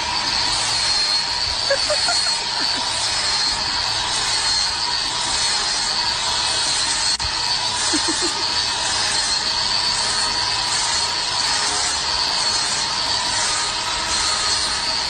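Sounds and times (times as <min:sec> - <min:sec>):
angle grinder sanding wood: 0:00.0 - 0:15.0.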